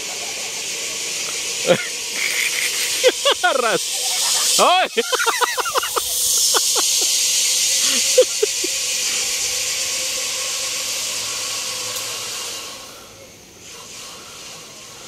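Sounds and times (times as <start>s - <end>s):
zipline pulleys hissing on cable: 0.0s - 15.0s.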